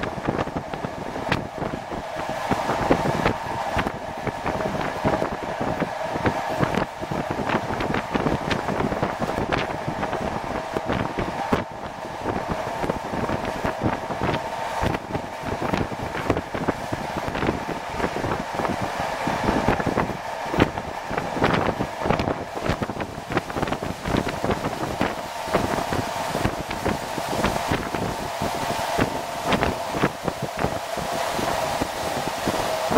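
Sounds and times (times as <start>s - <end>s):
steady droning tone: 0.0s - 32.9s
wind rushing in: 0.0s - 32.9s.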